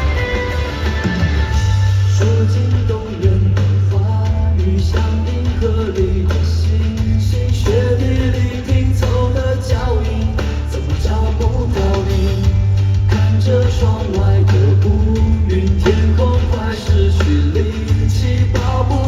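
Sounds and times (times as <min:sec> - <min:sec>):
heavy boomy bass: 0:00.0 - 0:19.0
live rock ballad: 0:00.0 - 0:19.0.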